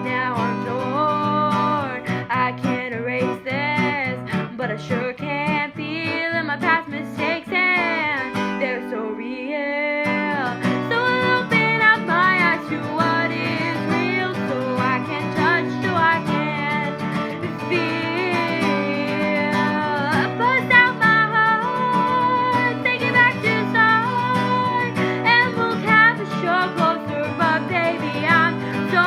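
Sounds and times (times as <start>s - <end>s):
acoustic guitar strumming: 0.0s - 29.0s
person singing: 0.0s - 29.0s.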